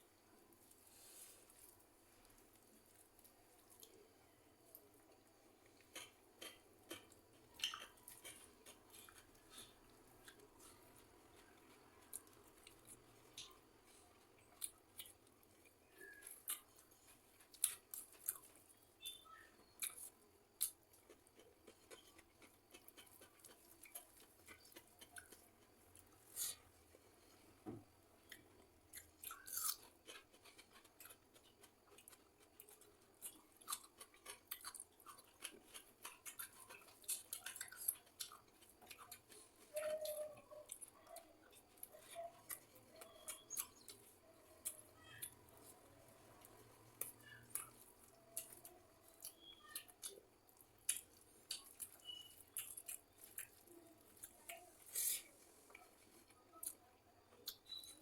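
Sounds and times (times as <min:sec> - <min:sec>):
person chewing and crunching food: 0:00.5 - 0:58.0.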